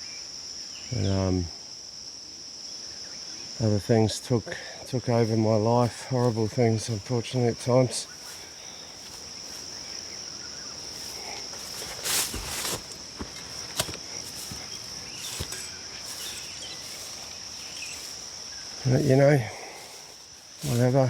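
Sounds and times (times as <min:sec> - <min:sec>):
insects droning: 0:00.0 - 0:21.0
rustle: 0:00.0 - 0:21.0.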